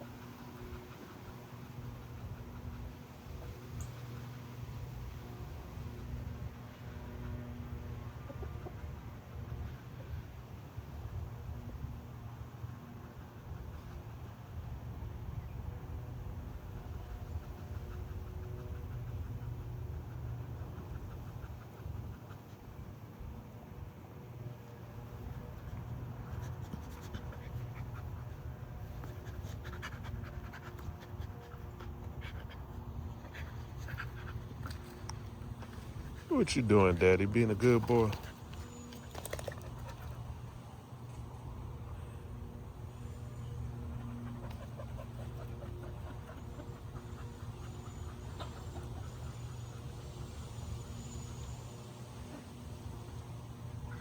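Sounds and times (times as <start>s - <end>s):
dog panting: 0.0s - 9.9s, 16.4s - 23.4s, 24.4s - 40.6s, 43.2s - 54.0s
steady low hum: 0.0s - 54.0s.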